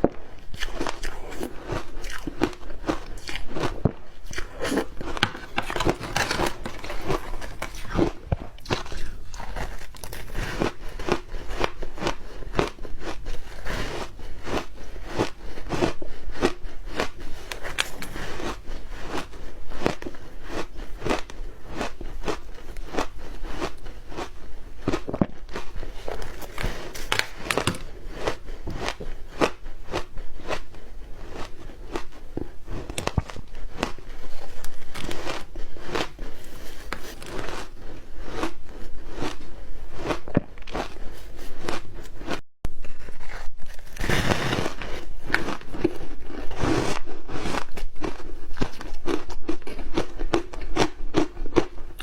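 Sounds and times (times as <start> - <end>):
ice being chewed: 0.0 - 42.4, 43.2 - 52.0.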